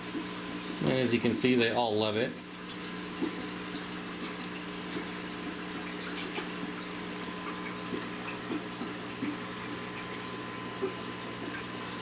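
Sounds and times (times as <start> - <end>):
aquarium water trickling: 0.0 - 12.0
low electrical hum: 0.0 - 12.0.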